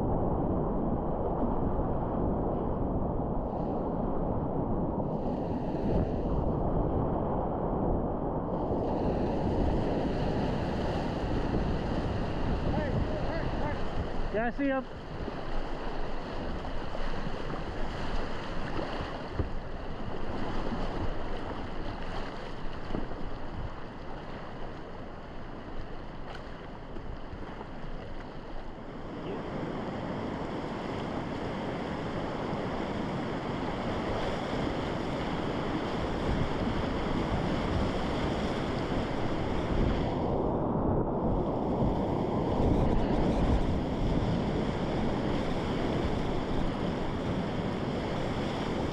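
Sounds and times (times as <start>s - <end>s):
wind on microphone: 0.0s - 48.9s.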